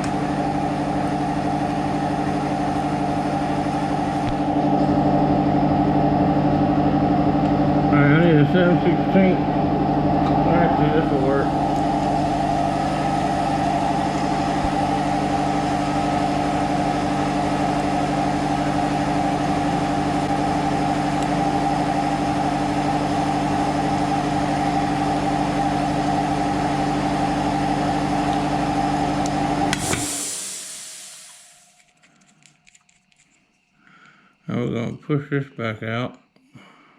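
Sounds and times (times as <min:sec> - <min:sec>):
machine humming: 0:00.0 - 0:32.8.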